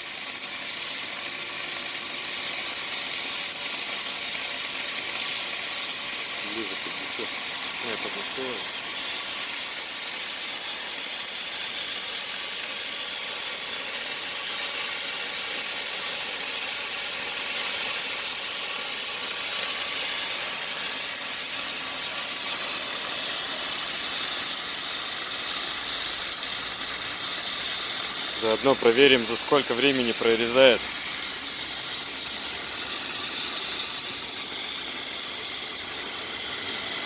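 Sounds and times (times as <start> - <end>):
gas cutting torch hissing: 0.0 - 37.0.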